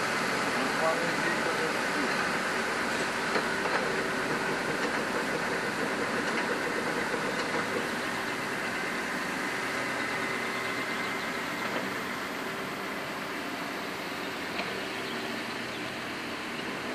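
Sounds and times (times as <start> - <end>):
truck engine humming: 0.0 - 16.9.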